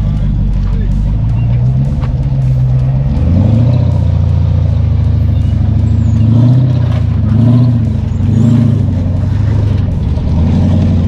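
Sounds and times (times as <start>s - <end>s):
buggy engine running under load: 0.0s - 11.0s.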